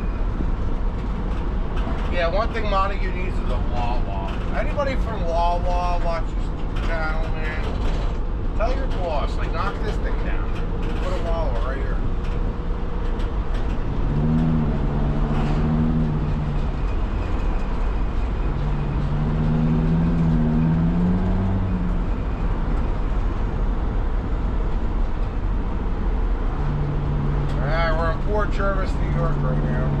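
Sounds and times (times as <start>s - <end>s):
engine hum: 0.0s - 30.0s
road noise inside a van: 0.0s - 30.0s.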